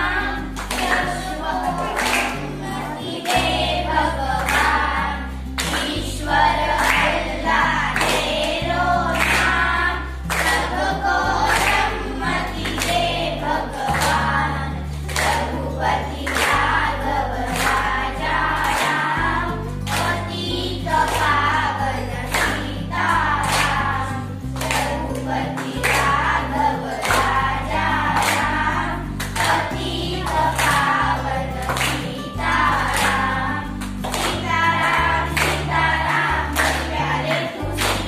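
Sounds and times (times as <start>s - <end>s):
girls singing in unison: 0.0s - 38.0s
hands clapping in time: 0.0s - 38.0s.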